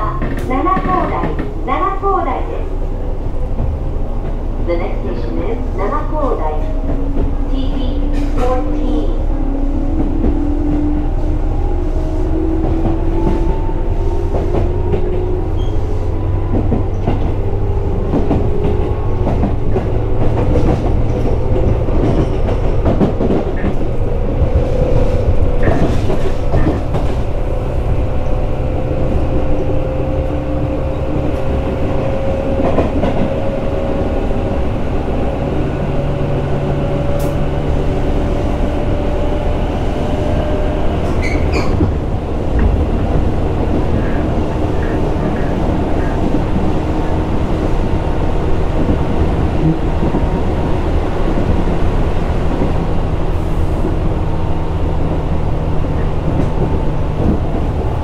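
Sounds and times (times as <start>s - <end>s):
low train rumble: 0.0s - 58.0s.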